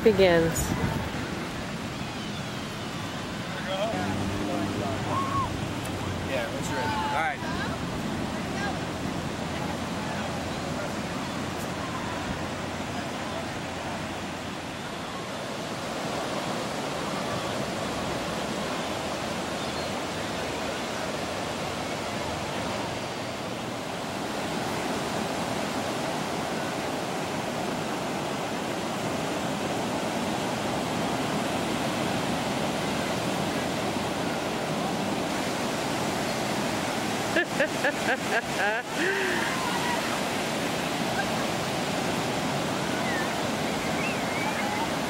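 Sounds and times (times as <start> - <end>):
waves breaking: 0.0 - 45.0.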